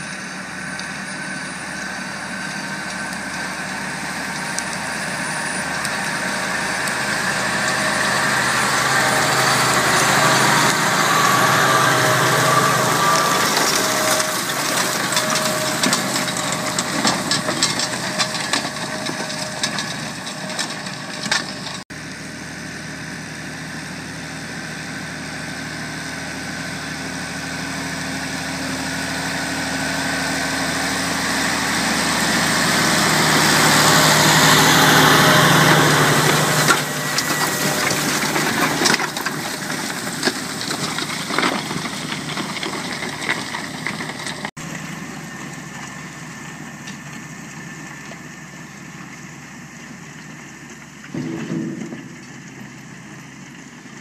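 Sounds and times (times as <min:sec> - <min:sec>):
soil crackling: 0:00.0 - 0:22.4, 0:24.7 - 0:54.0
tractor engine under load: 0:00.0 - 0:54.0.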